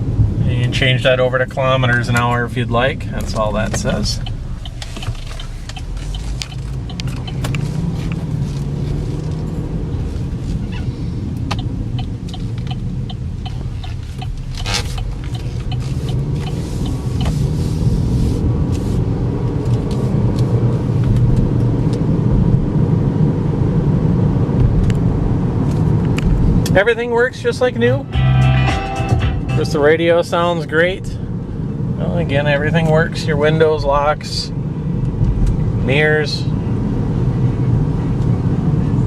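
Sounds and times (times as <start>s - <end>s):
car engine rumble: 0.0s - 39.0s
tyres on road: 0.0s - 39.0s.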